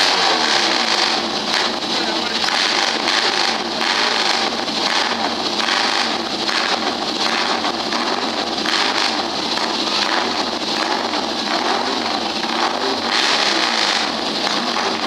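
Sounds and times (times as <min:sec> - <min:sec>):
loud motorcycle engine running: 0:00.0 - 0:15.0.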